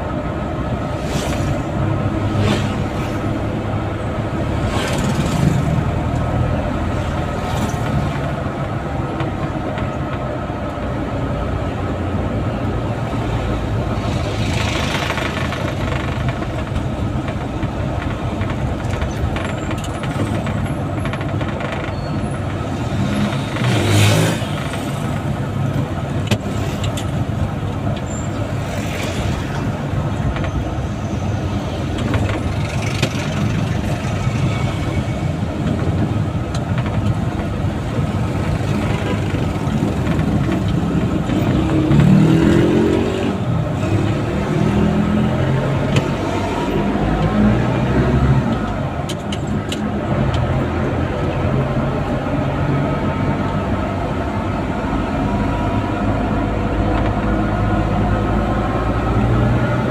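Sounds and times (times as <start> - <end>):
vehicle engine and road noise: 0.0 - 59.9
vehicles passing close by: 0.0 - 59.9.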